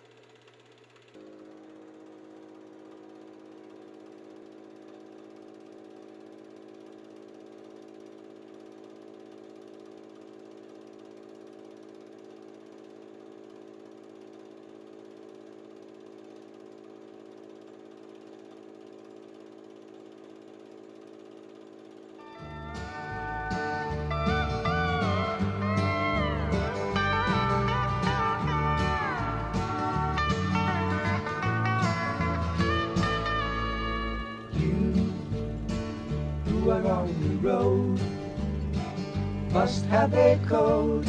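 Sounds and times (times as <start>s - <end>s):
film projector motor whirring: 0.0s - 41.0s.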